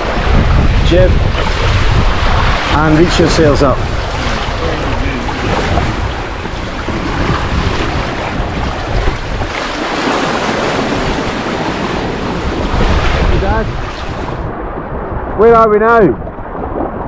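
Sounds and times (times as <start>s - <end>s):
water rushing past hulls: 0.0s - 17.0s
wind buffeting microphone: 0.0s - 17.0s.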